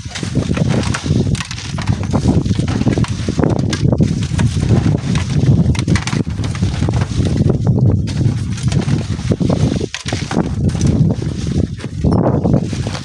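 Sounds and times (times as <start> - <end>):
knocks and gritty scrapes: 0.0 - 13.0
wind buffeting microphone: 0.0 - 13.0.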